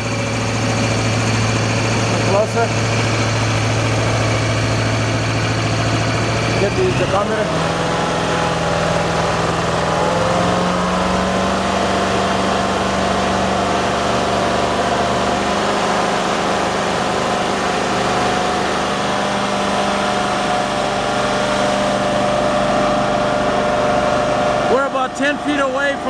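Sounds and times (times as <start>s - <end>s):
engine and blower hum: 0.0s - 26.0s.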